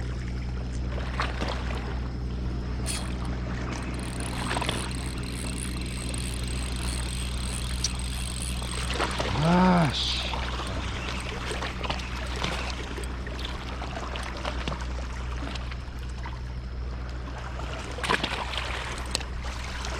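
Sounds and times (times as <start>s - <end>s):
boat engine idling hum: 0.0s - 19.9s
water trickling and splashing: 2.8s - 19.9s.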